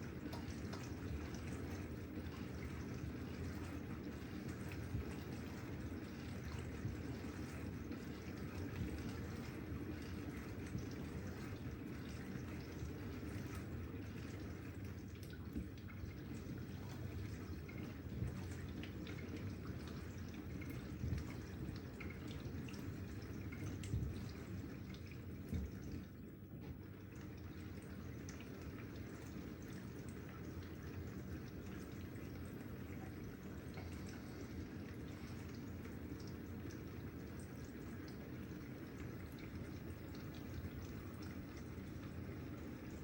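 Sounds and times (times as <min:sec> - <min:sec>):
dishwasher water washing: 0:00.0 - 0:43.0
small drips and ticks: 0:00.0 - 0:43.0.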